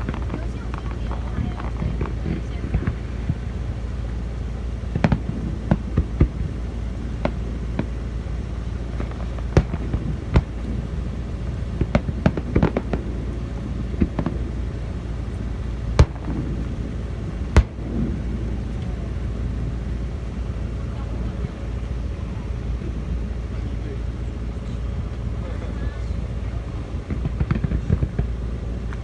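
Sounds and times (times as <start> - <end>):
fireworks bangs and pops: 0.0 - 29.0
low background rumble: 0.0 - 29.0.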